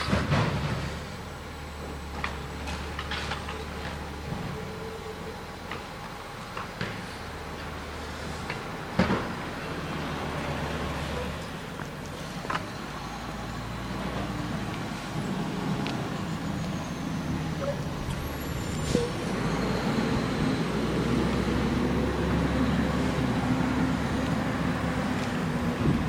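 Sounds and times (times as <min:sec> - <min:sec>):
garbage truck diesel engine: 0:00.0 - 0:26.0.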